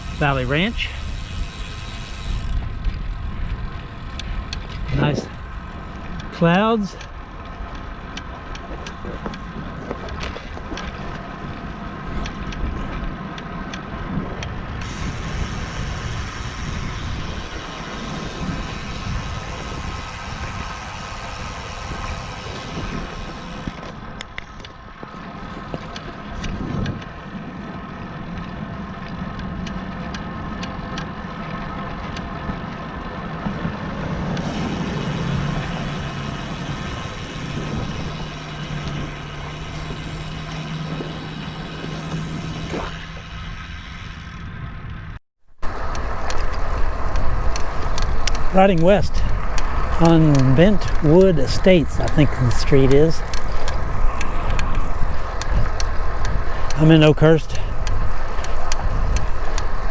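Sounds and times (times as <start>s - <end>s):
bicycle tyre noise: 0.0s - 59.9s.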